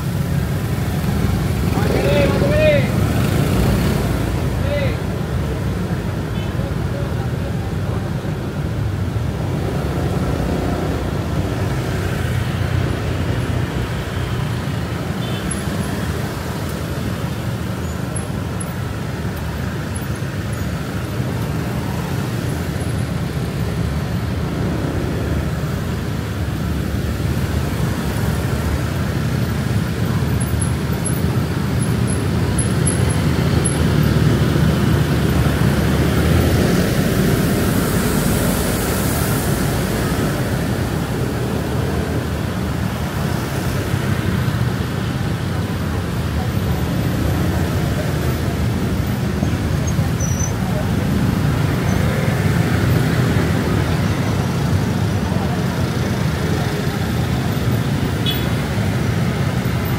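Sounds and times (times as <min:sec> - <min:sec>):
surrounding car traffic: 0:00.0 - 0:59.9
wind: 0:00.0 - 0:59.9.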